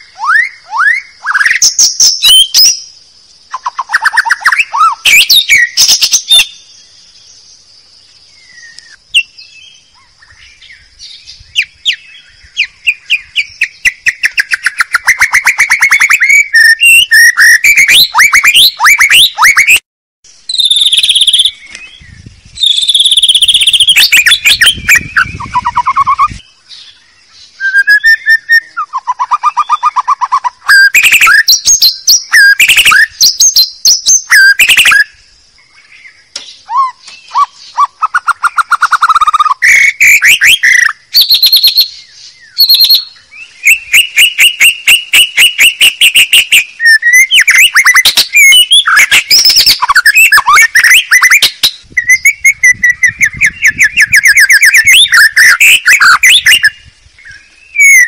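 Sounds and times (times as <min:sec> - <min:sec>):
bird singing whistles and trills: 0:00.0 - 0:19.8, 0:20.4 - 0:58.0.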